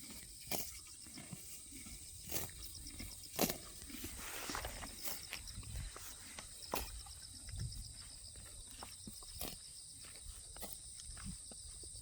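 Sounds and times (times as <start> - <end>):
horses tearing grass: 0.0 - 11.4
horses chewing: 0.0 - 12.0.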